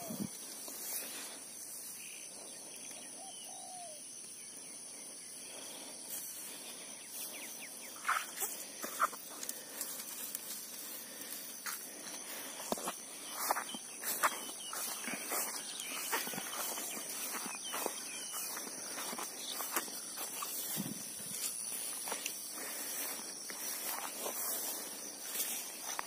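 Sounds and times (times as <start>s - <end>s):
footsteps through dry grass: 0.0s - 2.2s, 5.9s - 26.0s.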